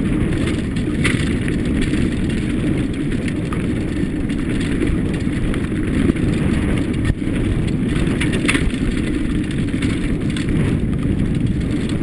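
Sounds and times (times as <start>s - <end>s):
bike knocks and rattles: 0.0s - 12.0s
bike tyre noise on dirt: 0.0s - 12.0s
wind rumble on microphone: 0.0s - 12.0s.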